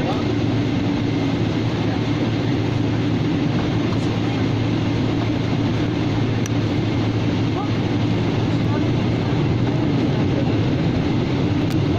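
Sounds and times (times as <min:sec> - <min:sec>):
airliner cabin roar: 0:00.0 - 0:11.9
constant low hum: 0:00.0 - 0:11.9.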